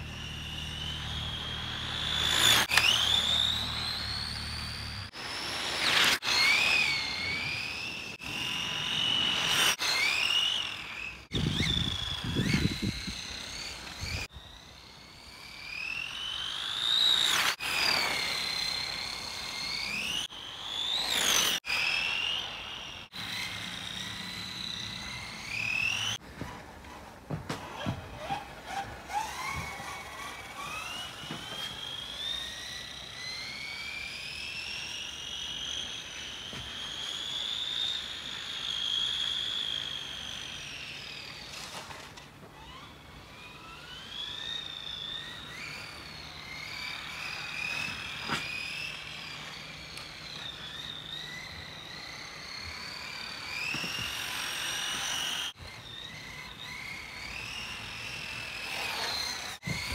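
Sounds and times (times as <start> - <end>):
toy car electric motor whine: 0.0 - 59.9.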